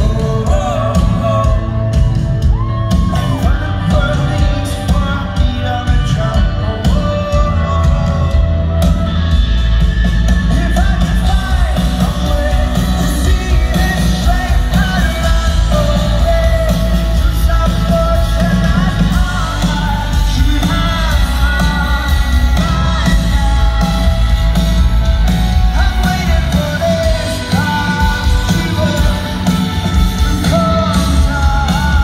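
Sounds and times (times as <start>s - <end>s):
drums: 0.0s - 32.0s
electric guitar: 0.0s - 32.0s
heavy steady bass: 0.0s - 32.0s
lead singer: 0.0s - 32.0s
live rock band through pa: 0.0s - 32.0s.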